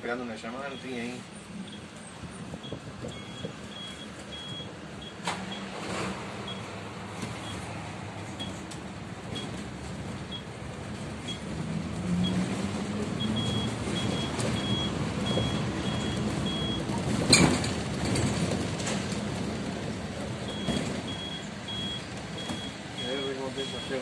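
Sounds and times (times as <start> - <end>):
bus engine running: 1.2 - 24.0.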